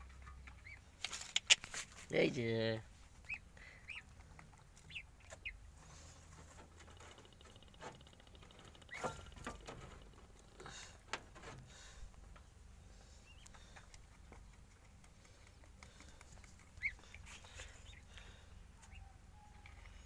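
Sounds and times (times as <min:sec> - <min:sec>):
rabbits rustling and tapping: 0:00.0 - 0:03.4, 0:04.0 - 0:20.0.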